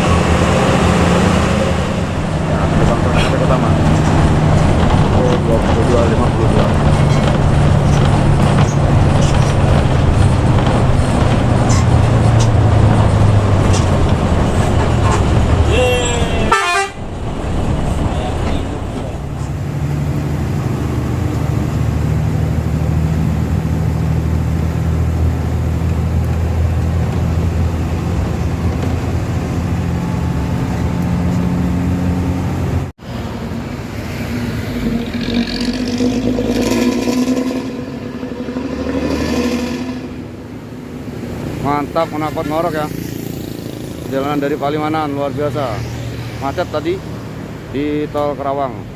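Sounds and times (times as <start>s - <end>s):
bus engine droning through exhaust: 0.0s - 42.8s.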